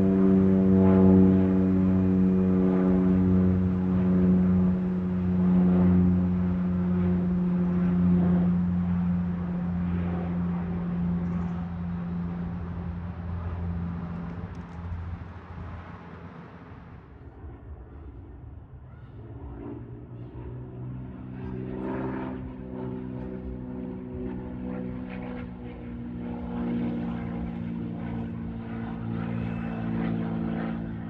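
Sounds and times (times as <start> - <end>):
aircraft engine hum: 0.0 - 31.0.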